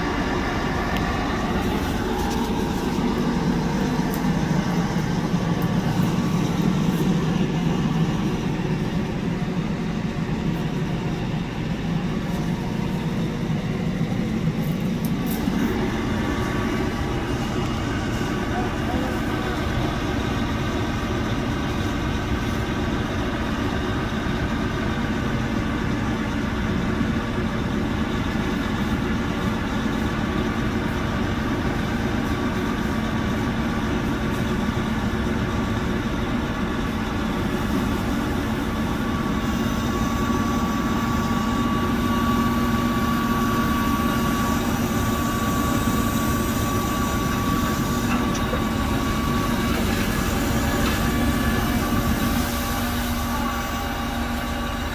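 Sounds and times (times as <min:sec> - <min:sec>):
steady high whine: 0:00.0 - 0:54.9
truck engine idling: 0:00.0 - 0:54.9.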